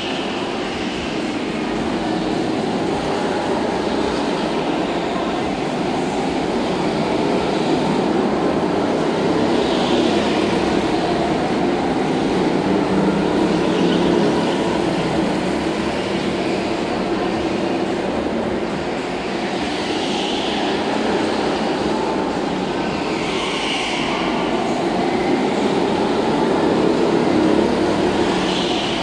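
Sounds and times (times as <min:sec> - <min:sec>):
go-kart engines droning: 0:00.0 - 0:29.0
karts whining past: 0:00.0 - 0:29.0.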